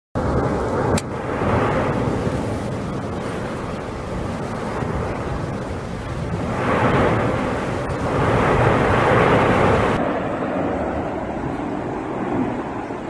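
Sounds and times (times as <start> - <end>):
deep volcanic rumble: 0.2 - 13.0.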